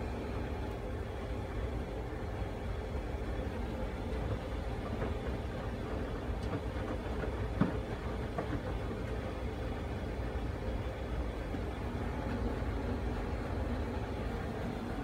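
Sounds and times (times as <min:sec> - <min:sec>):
washing machine rumbling: 0:00.0 - 0:15.0.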